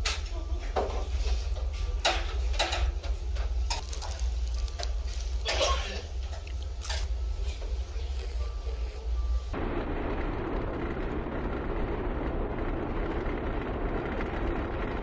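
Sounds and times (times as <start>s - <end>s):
ferry engine low rumble: 0.0s - 15.0s.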